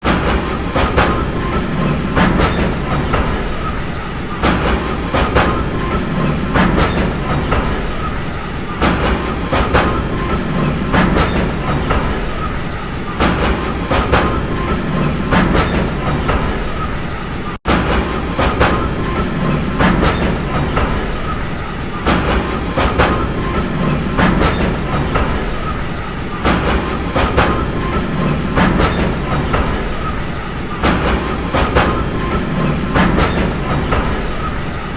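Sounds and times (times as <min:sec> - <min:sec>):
train rumble: 0:00.0 - 0:34.9
wheels clacking over rail joints: 0:00.0 - 0:34.9.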